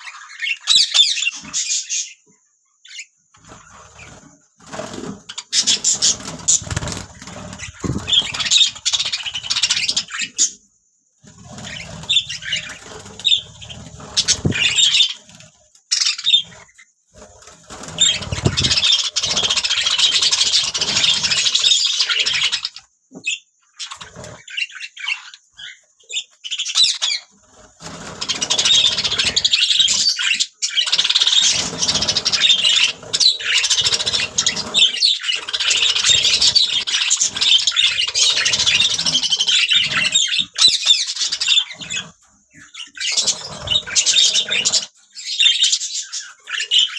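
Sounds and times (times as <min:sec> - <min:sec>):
budgerigars chirping and warbling: 0:00.0 - 0:10.6, 0:11.2 - 0:46.9.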